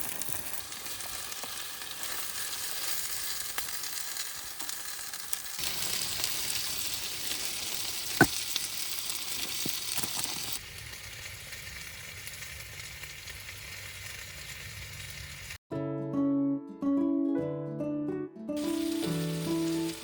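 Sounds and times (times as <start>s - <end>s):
meat sizzling in a pan: 0.0s - 15.6s, 18.6s - 20.0s.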